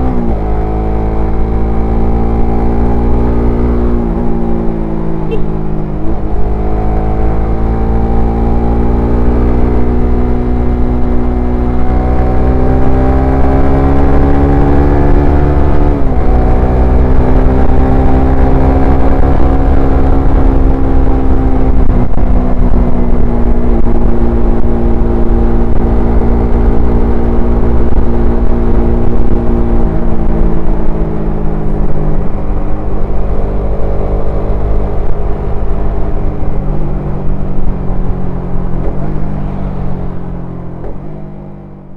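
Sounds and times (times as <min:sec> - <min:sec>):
motorcycle engine revving: 0:00.0 - 0:41.9
wind rumble on microphone: 0:00.0 - 0:41.9.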